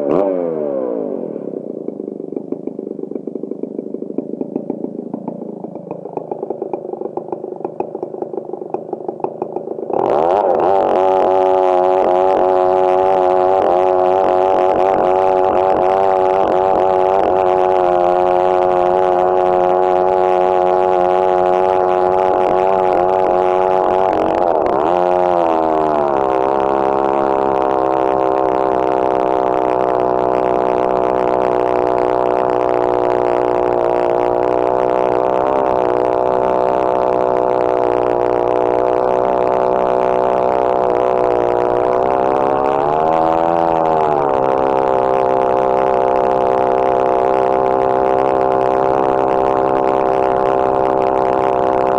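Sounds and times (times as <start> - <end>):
chainsaw cutting log: 0.0 - 51.9.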